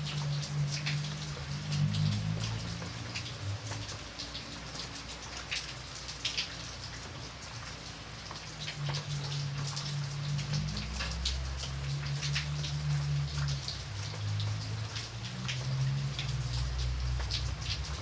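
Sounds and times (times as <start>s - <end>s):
rain falling: 0.0s - 18.0s
raindrops ticking: 0.0s - 18.0s.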